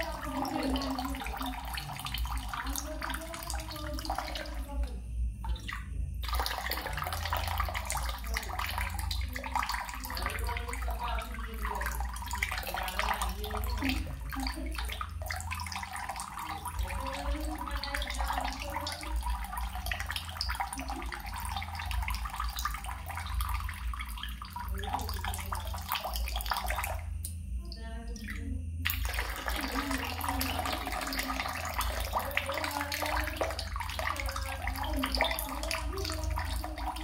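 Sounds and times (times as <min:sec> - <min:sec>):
running water splashing: 0:00.0 - 0:37.0.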